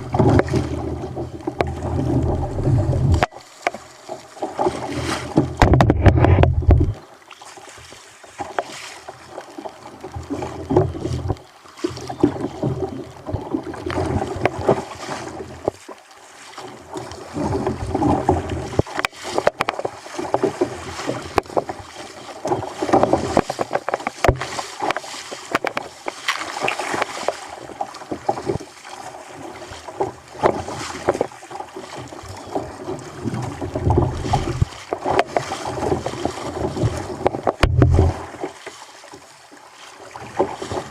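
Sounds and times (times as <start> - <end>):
water slapping kayak hull: 0.0 - 40.9.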